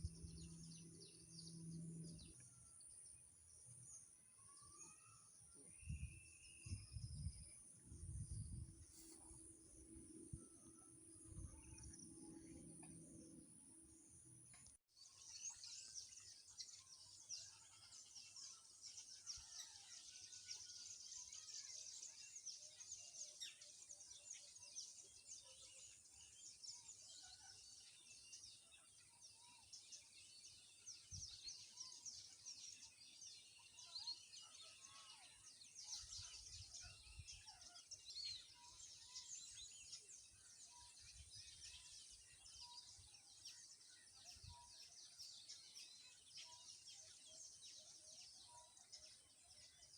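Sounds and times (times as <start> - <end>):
birds chirping and twittering: 0.0 - 49.9.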